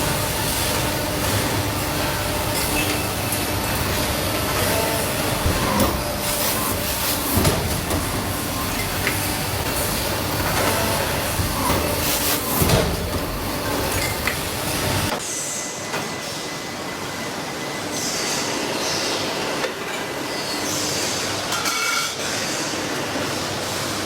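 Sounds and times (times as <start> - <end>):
factory machinery running: 0.0 - 24.0.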